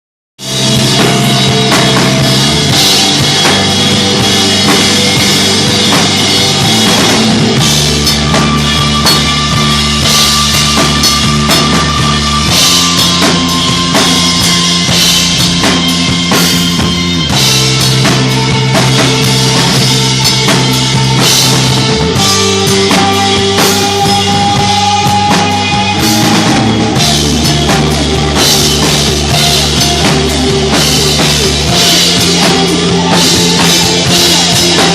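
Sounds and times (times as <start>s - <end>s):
drum kit with crashing cymbals: 0.4s - 34.9s
heavy guitar and bass chords: 0.4s - 34.9s.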